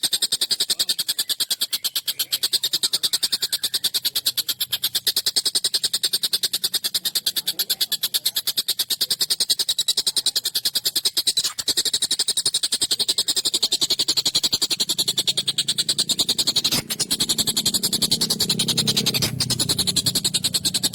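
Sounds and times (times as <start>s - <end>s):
kingfisher rattling call: 0.0s - 20.9s.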